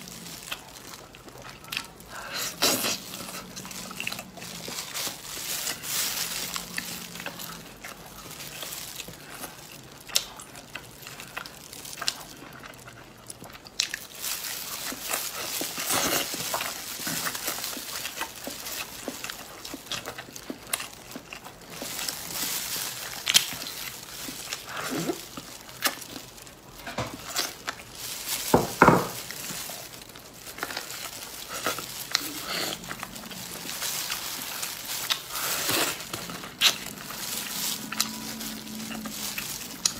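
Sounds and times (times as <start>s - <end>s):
plastic gloves crinkling: 0.0s - 39.9s
chewing and smacking: 0.1s - 28.5s, 29.2s - 39.9s.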